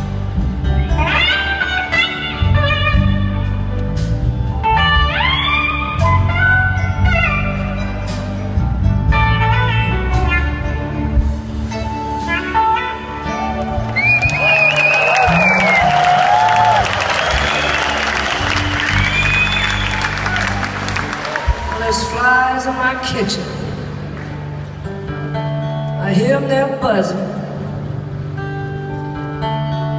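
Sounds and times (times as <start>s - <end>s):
bass and drums: 0.0s - 25.6s.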